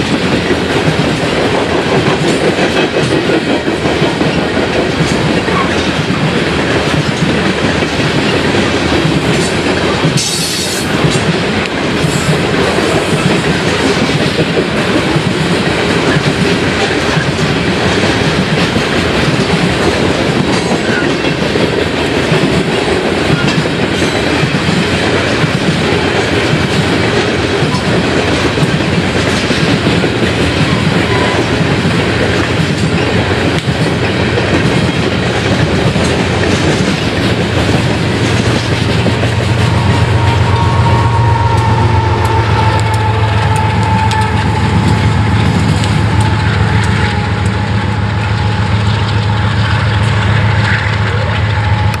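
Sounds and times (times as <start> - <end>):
diesel locomotive engine drone: 0.0 - 52.0
train wheels clacking over rail joints: 0.0 - 52.0.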